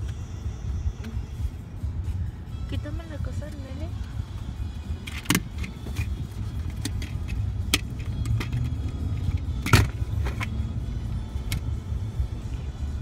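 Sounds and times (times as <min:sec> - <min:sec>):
low rumble of tyres and engine: 0:00.0 - 0:13.0.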